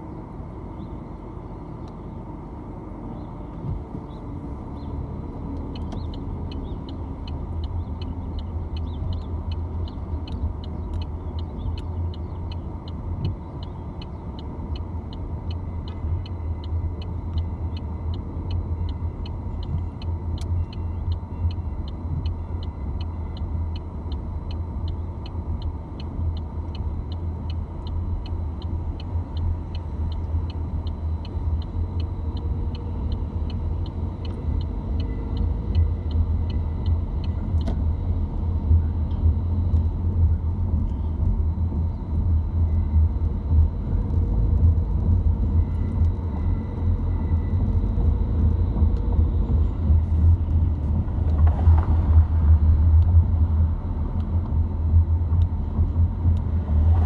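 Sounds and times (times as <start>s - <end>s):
engine and tyre rumble: 0.0s - 57.0s.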